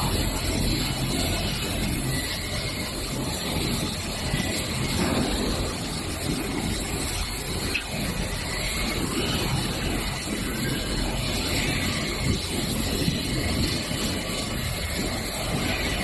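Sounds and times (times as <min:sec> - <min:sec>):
production-line machinery hum: 0:00.0 - 0:16.0.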